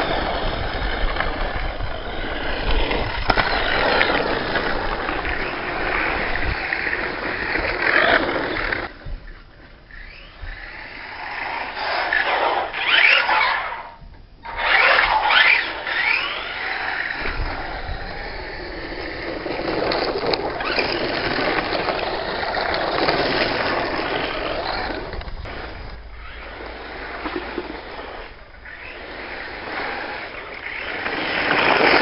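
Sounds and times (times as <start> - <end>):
tyres scrabbling on gravel: 0.0 - 9.2, 14.6 - 32.0
rc car motor whine: 0.0 - 32.0.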